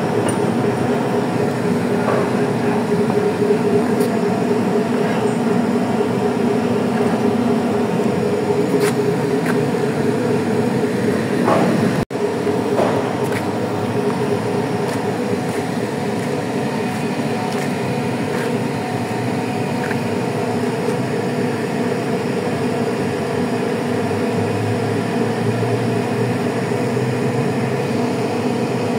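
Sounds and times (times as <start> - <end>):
engine and hauling gear drone: 0.0 - 28.9.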